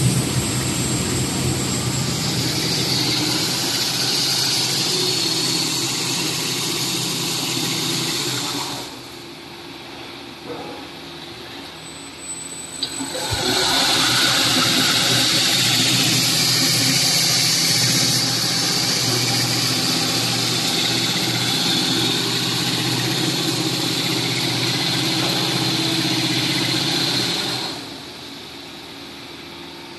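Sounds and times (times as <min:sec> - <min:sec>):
film rewinder machine hiss and hum: 0:00.0 - 0:10.1, 0:12.5 - 0:29.9.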